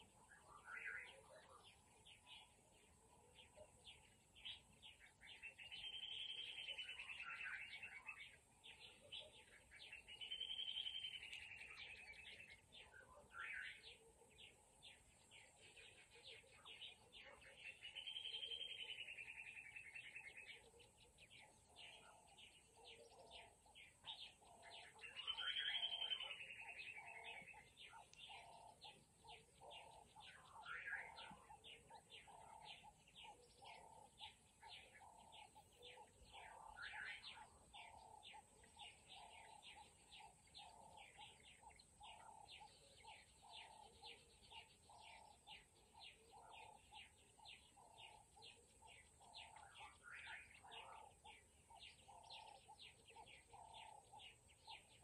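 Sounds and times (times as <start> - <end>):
bird warbling song: 0.0 - 55.0
birds chirping: 0.0 - 55.0.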